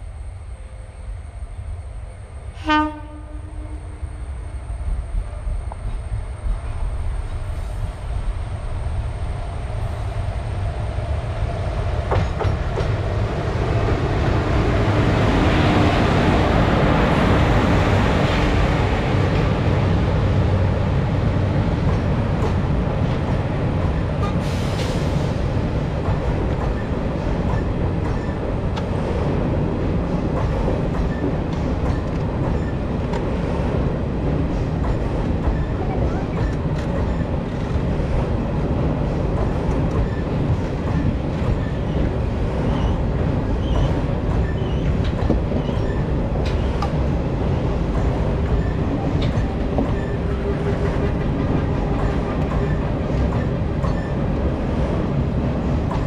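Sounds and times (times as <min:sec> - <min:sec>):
train passing: 0:00.0 - 0:56.0
train wheels rumbling and clattering: 0:04.0 - 0:56.0.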